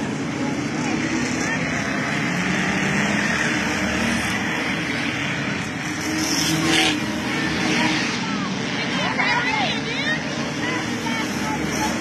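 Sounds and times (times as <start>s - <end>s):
race car engines roaring: 0.0s - 12.0s.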